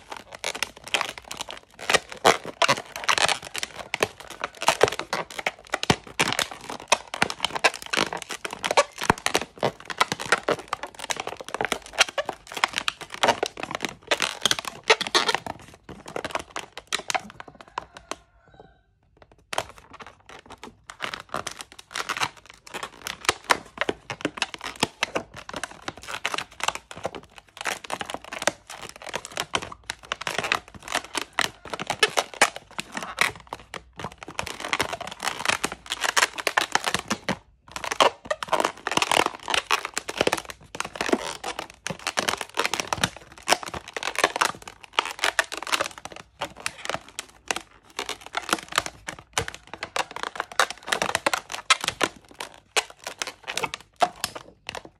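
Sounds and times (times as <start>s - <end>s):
balloons squeaking and rubbing: 0.0s - 18.5s, 19.2s - 54.9s.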